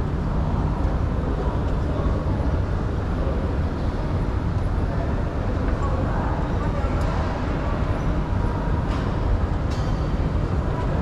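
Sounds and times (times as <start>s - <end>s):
busy terminal hall noise: 0.0s - 11.0s.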